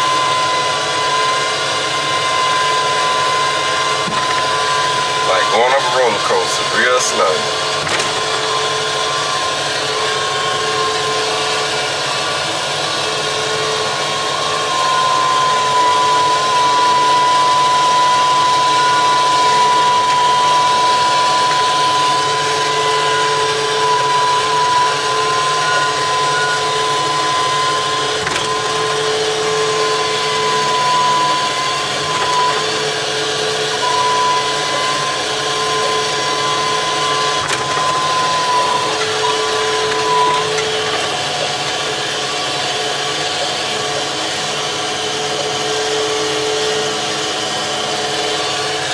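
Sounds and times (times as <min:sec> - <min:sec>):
crane engine and hydraulics running: 0:00.0 - 0:48.9
high-pitched whine: 0:00.0 - 0:48.9.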